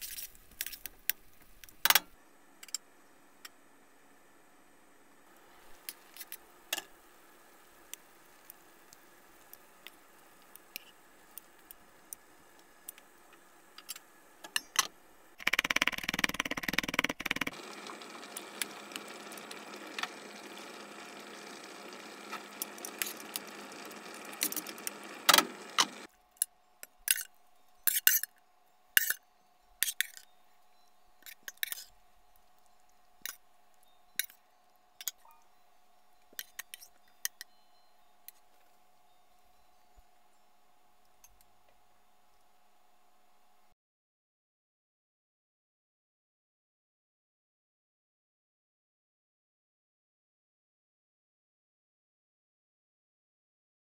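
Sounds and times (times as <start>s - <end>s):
faint steady hum: 0.0s - 43.7s.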